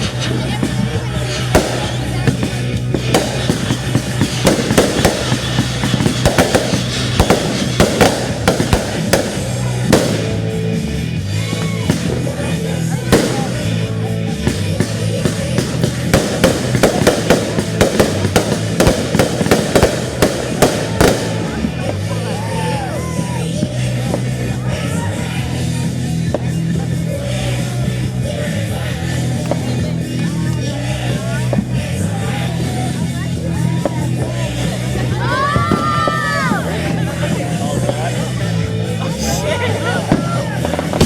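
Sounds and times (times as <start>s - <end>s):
fireworks bangs and crackles: 0.0s - 41.0s
loud music with stepping bass: 0.0s - 41.0s.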